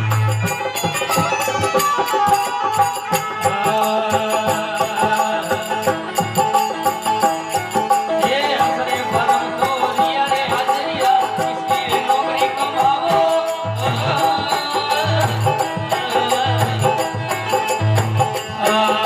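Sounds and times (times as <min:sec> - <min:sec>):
fast percussion beat: 0:00.0 - 0:19.0.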